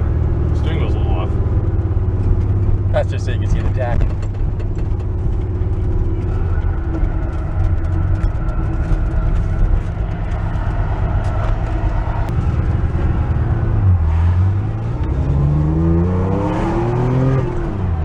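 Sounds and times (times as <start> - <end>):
car engine droning: 0.0 - 18.0
road noise: 0.0 - 18.0.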